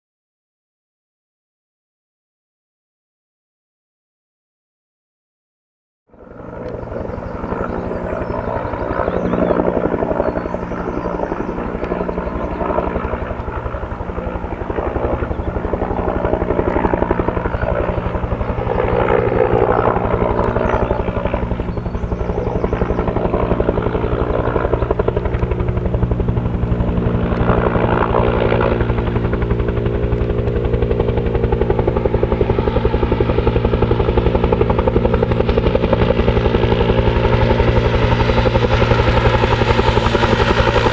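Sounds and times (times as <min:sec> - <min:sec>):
helicopter rotor beating: 0:06.1 - 0:40.9.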